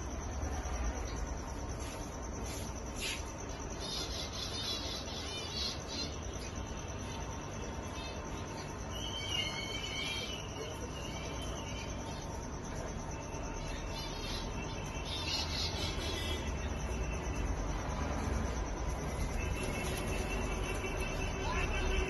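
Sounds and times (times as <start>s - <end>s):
high-pitched background hum: 0.0s - 22.0s.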